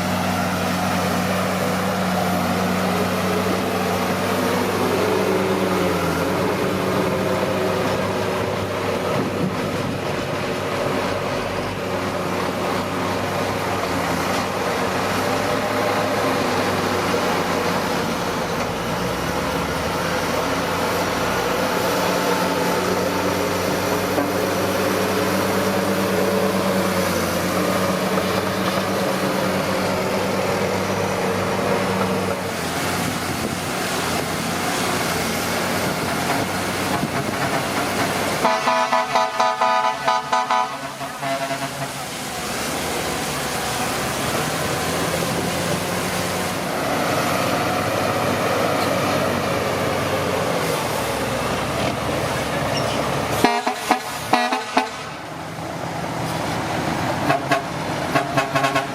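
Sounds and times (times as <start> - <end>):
diesel engine under load: 0.0 - 58.9.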